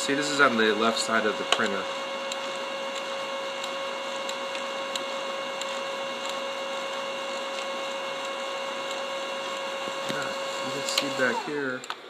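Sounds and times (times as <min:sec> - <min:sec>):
printer humming and whining: 0:00.0 - 0:12.0.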